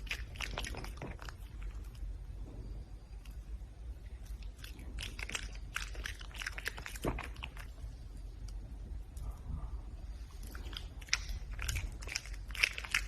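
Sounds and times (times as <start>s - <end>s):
animal chewing and crunching food: 0.0s - 13.0s
low steady hum: 0.0s - 13.0s.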